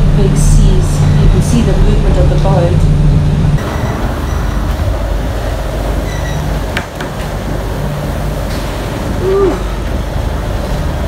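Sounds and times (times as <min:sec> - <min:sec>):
gale-force wind rumble: 0:00.0 - 0:11.0
heavy seas on boat hull: 0:00.0 - 0:11.0.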